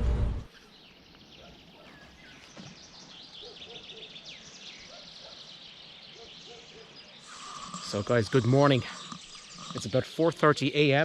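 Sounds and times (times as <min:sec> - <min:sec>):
songbirds chirping and singing: 0:00.5 - 0:11.0.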